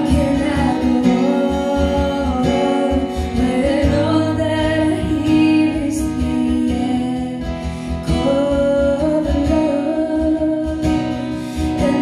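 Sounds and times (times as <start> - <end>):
strummed acoustic guitar: 0.0 - 12.0
woman singing: 0.0 - 12.0.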